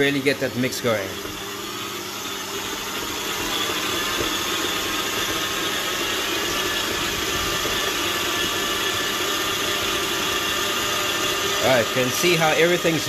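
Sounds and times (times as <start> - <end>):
stand mixer motor running: 0.0 - 13.0.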